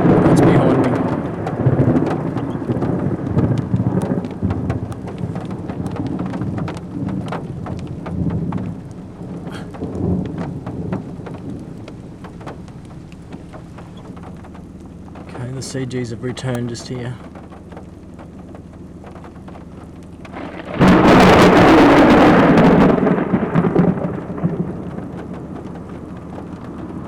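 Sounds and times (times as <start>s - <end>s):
raindrops ticking on car: 0.0s - 27.0s
thunder rumbling: 0.0s - 27.0s.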